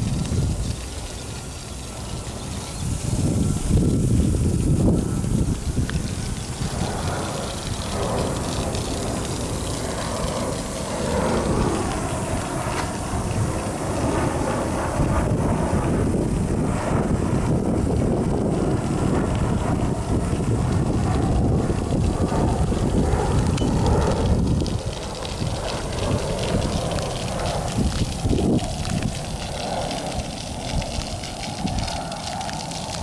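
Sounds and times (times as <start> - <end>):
jet airliner engine rumble: 0.0 - 33.0
wind buffeting microphone: 0.0 - 33.0.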